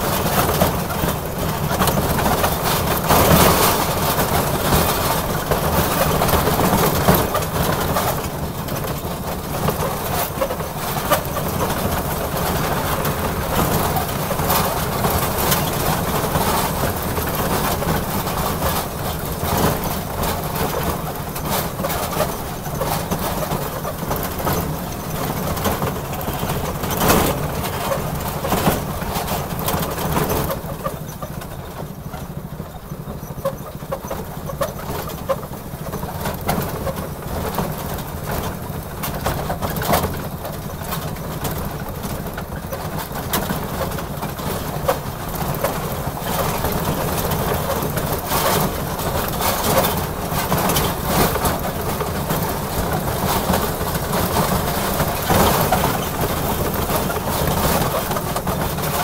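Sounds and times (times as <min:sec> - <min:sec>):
miniature locomotive engine drone: 0:00.0 - 0:59.0.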